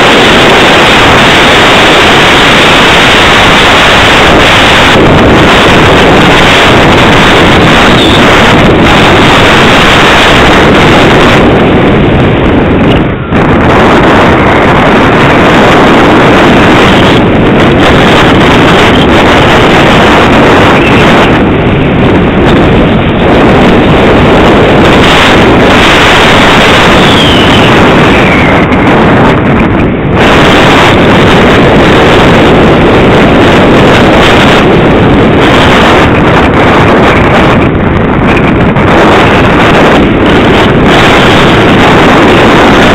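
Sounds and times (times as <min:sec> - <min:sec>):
wind rush on microphone: 0:00.0 - 0:42.9.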